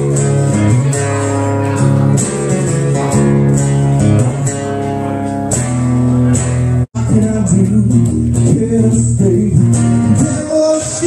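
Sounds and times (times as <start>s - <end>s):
electric guitar: 0.0s - 11.0s
live blues band playing: 0.0s - 11.0s.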